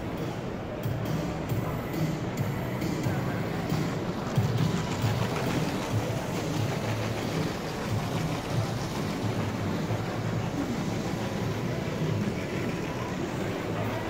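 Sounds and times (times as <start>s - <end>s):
low hall rumble: 0.0s - 14.0s
distant voices: 1.6s - 14.0s.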